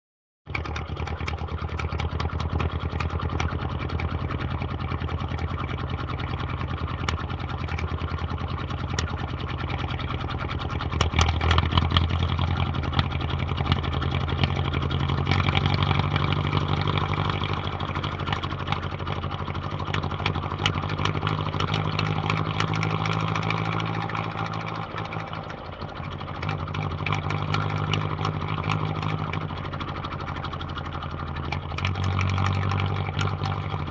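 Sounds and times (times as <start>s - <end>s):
car engine throbbing: 0.5s - 33.9s.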